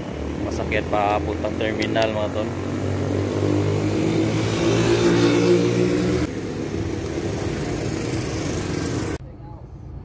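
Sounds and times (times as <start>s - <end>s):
vehicle engine humming: 0.0s - 9.3s.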